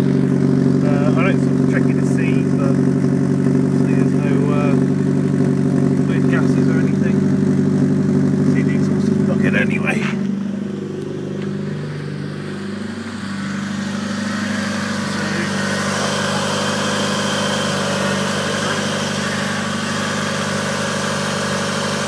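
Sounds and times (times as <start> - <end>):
loud unsilenced car engine idling: 0.0 - 22.0.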